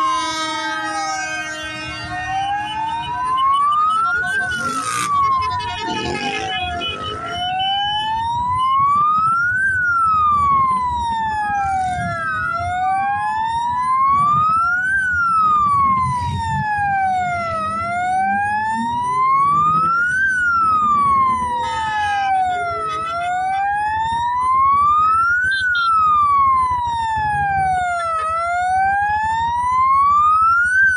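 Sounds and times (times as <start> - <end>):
emergency siren wailing: 0.0 - 30.9
motorcycle engines revving: 0.0 - 30.9
second fainter siren: 0.0 - 30.9.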